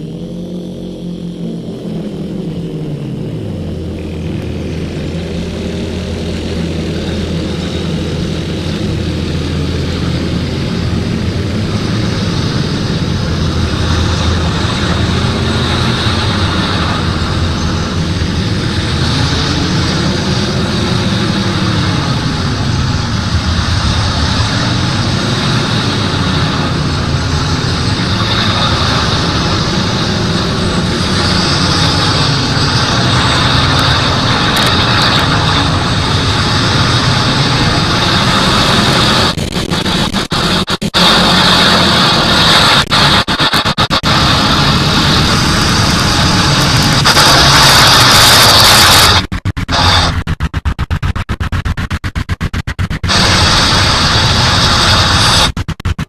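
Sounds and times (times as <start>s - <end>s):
hissing layer: 4.3s - 56.0s.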